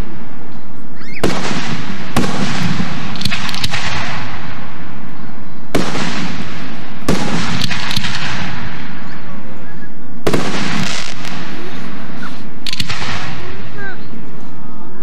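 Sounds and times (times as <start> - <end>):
firework crackling: 0.0 - 15.0
firework booms: 1.0 - 14.4.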